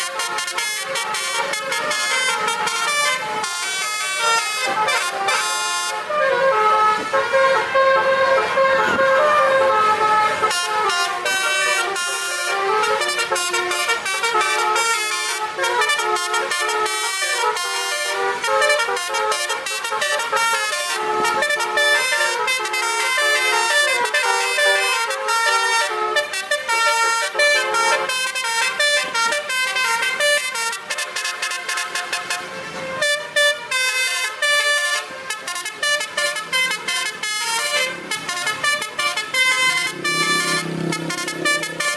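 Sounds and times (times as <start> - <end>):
musical air horn playing a tune: 0.0 - 41.9.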